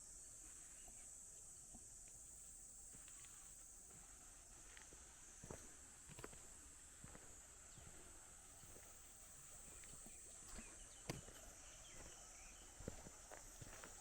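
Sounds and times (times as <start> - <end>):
faint high-pitched insect drone: 0.0 - 14.0.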